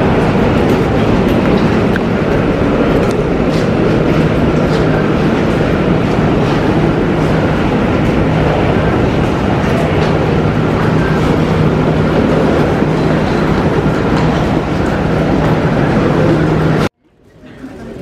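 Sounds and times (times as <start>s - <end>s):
wheeled suitcases rolling: 0.0s - 18.0s.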